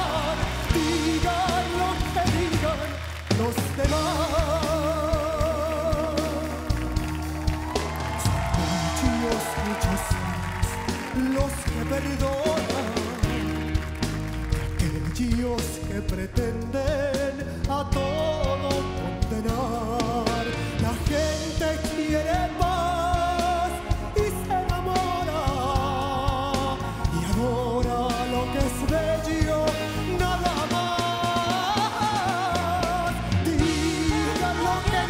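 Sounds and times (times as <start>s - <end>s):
man singing with vibrato: 0.0s - 7.0s, 8.2s - 13.7s, 14.8s - 35.0s
band with bass and drums: 0.0s - 35.0s.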